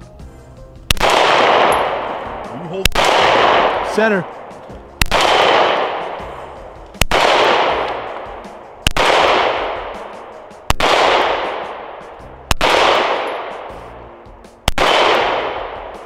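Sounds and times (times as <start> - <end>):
pistol shots: 0.9 - 13.8, 14.6 - 16.0.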